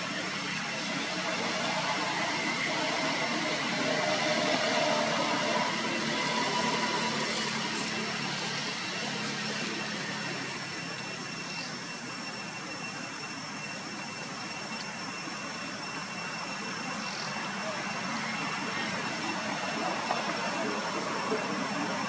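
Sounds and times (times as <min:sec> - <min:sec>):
distant engine rumble: 0:00.0 - 0:22.0
faint high-pitched tones: 0:00.0 - 0:22.0.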